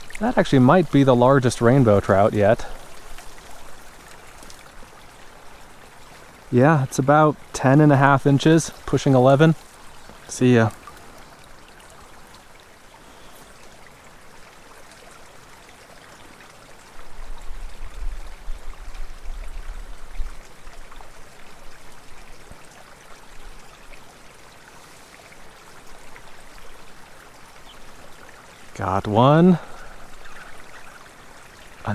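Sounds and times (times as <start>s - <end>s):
creek water flowing: 0.0s - 31.9s.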